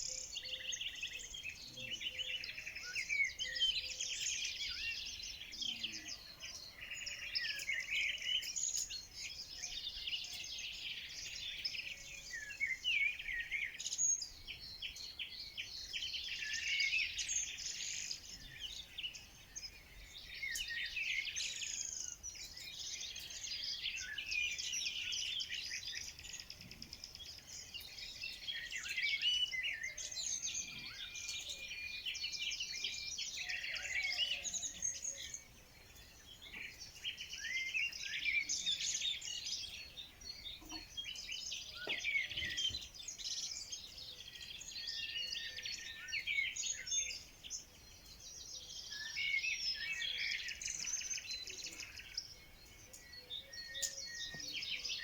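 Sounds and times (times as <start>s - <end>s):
songbirds chorus: 0.0s - 55.0s.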